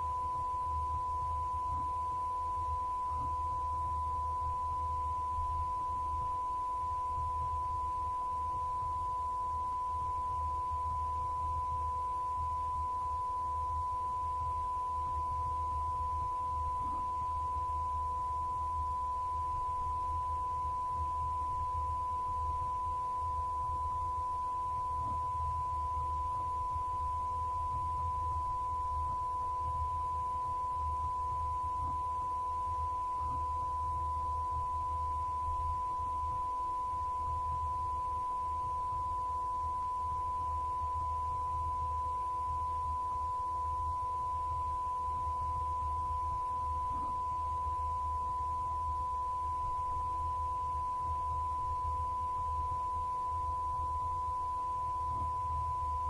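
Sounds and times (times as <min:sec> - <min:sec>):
fainter lower tone: 0:00.0 - 0:56.0
low hum: 0:00.0 - 0:56.0
steady electronic sine tone: 0:00.0 - 0:56.0.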